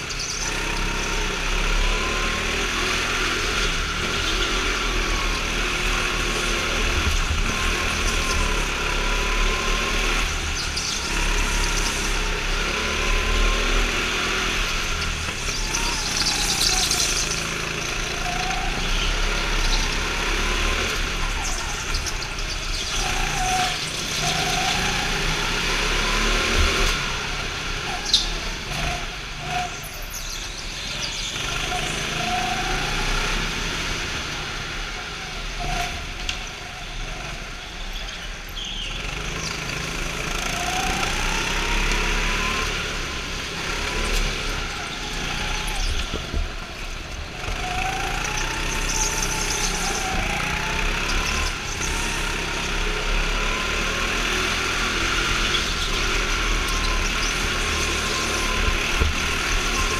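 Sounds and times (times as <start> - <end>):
go-kart engines revving: 0.0 - 59.9.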